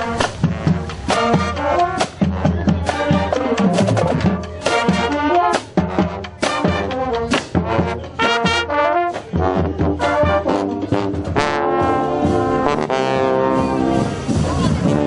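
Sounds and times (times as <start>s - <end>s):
drum beat: 0.0s - 15.0s
trombones and trumpets playing: 0.0s - 15.0s.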